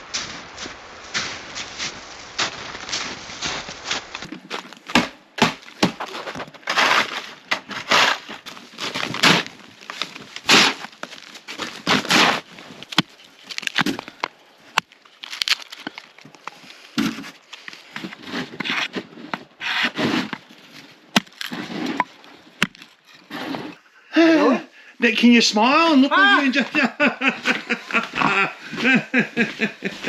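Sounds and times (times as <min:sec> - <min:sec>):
footsteps crunching through snow: 0:00.0 - 0:23.8, 0:26.2 - 0:30.0.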